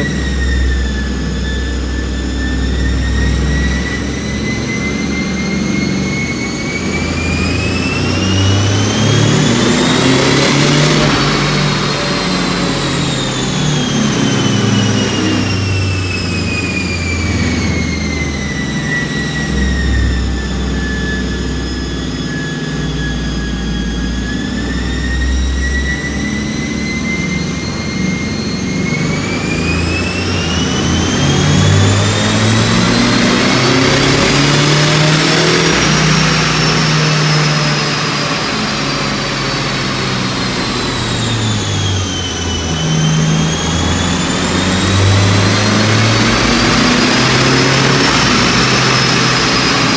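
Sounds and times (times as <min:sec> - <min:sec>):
car engine revving under load: 0:00.0 - 0:49.9
turbo whine: 0:00.0 - 0:49.9.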